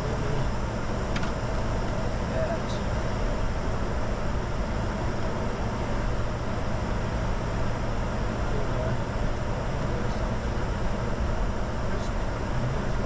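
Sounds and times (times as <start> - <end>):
jet cockpit engine and airflow rush: 0.0 - 13.0.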